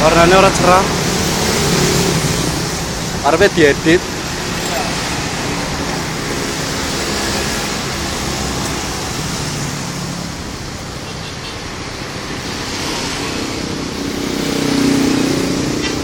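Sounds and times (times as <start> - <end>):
road noise: 0.0 - 16.0
vehicle engines running: 0.0 - 16.0.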